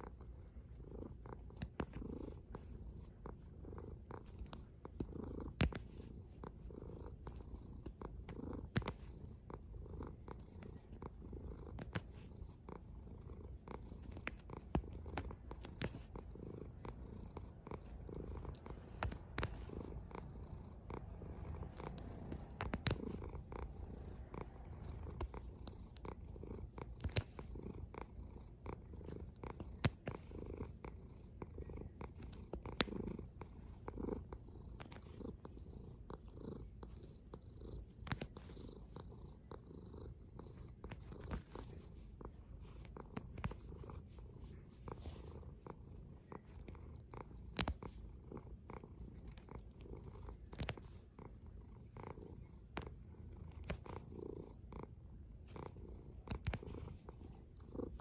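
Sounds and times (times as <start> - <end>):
cat snoring: 0.0 - 58.0.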